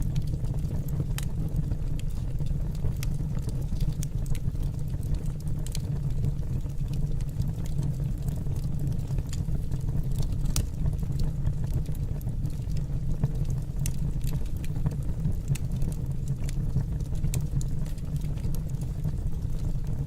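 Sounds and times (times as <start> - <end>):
burning wood crackling and popping: 0.0 - 20.0
fireplace flames roaring: 0.0 - 20.0.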